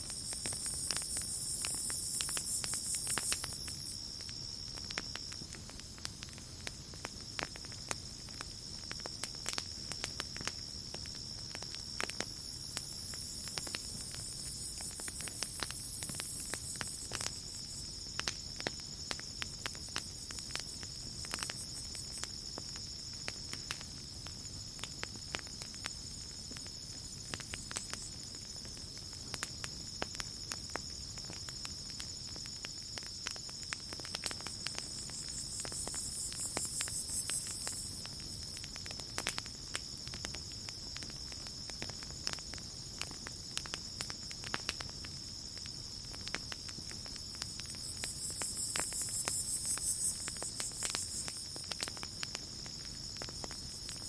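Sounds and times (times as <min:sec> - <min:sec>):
campfire crackling and popping: 0:00.0 - 0:54.0
crickets trilling: 0:00.0 - 0:54.0.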